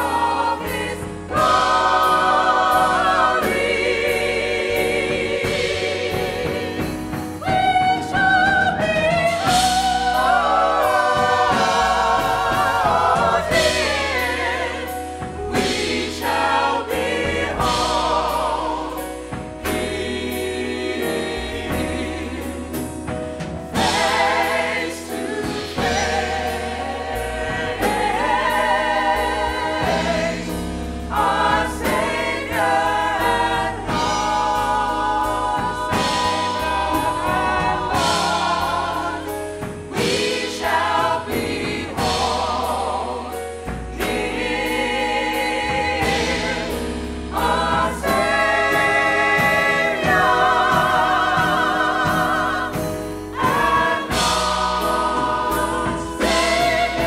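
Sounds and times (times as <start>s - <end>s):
gospel choir singing: 0.0s - 57.0s.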